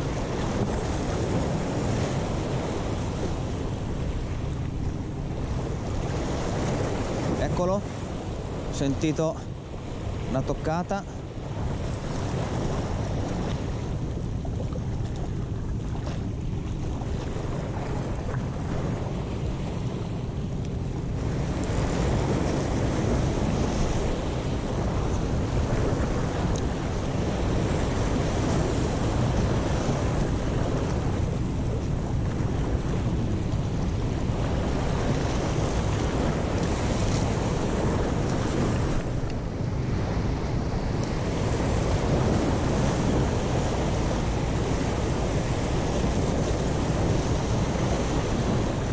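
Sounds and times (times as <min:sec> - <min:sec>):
sea waves breaking on rocks: 0:00.0 - 0:48.9
wind buffeting microphone: 0:00.0 - 0:48.9.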